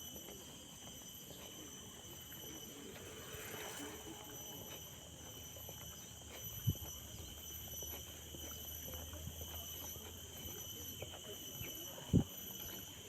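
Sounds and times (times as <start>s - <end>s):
crickets chirping: 0.0s - 13.0s
footsteps on a trail: 0.0s - 13.0s.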